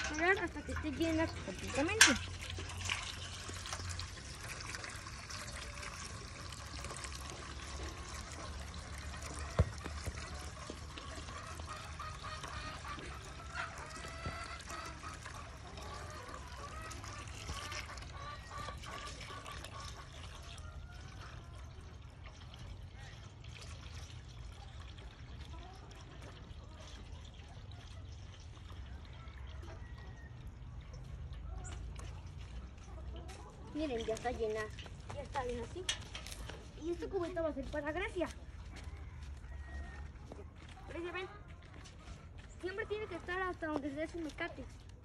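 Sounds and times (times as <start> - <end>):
hose water trickling into metal bucket: 0.0 - 38.2.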